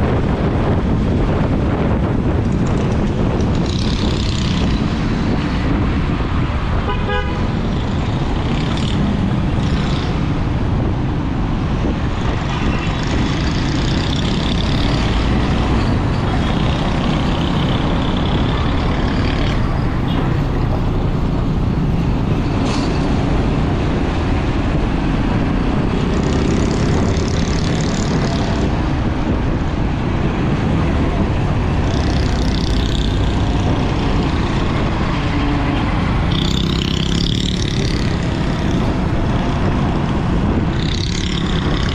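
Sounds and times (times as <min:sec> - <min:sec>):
motorcycle engine and wind rush: 0:00.0 - 0:41.9
surrounding traffic: 0:00.0 - 0:41.9.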